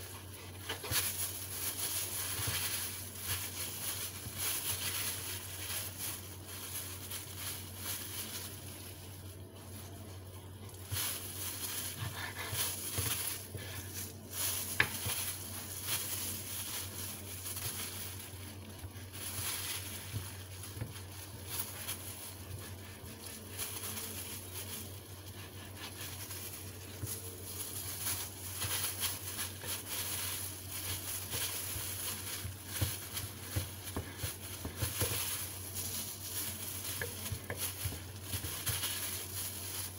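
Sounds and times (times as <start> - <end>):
low steady hum: 0.0 - 39.9
plastic gloves crinkling: 0.0 - 39.9.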